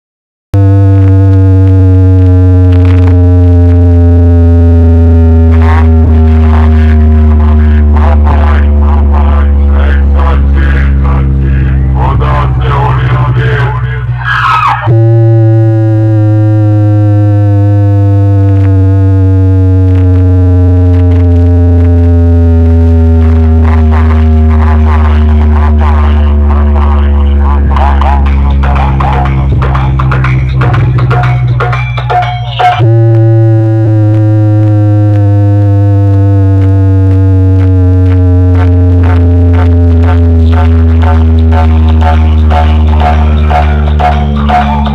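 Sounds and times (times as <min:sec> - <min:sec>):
loud synthesizer bass tone: 0:00.5 - 0:44.9.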